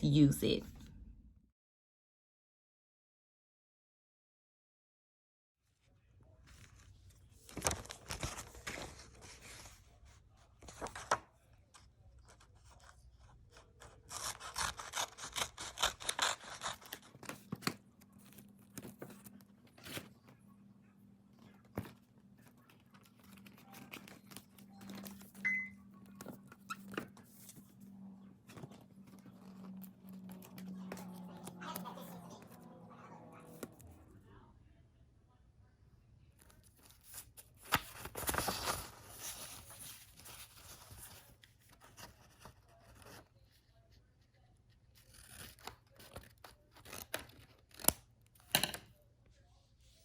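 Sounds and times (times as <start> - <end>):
faint low hum: 5.7 - 50.0.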